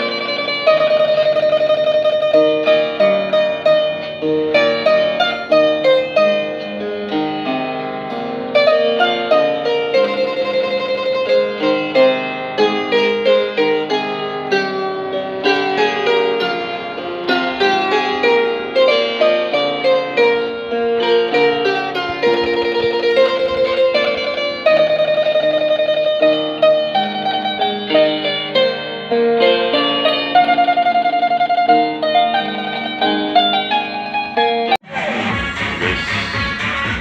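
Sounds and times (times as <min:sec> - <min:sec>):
harp plucked melody: 0:00.0 - 0:37.0.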